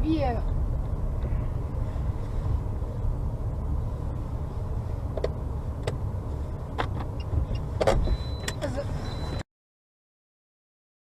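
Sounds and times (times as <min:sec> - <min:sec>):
car driving rumble: 0:00.0 - 0:09.4.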